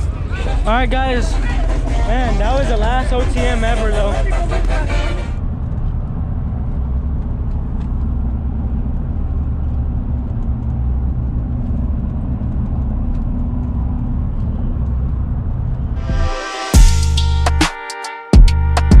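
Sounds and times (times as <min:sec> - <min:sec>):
motor vehicle engine rumble: 0:00.0 - 0:17.6.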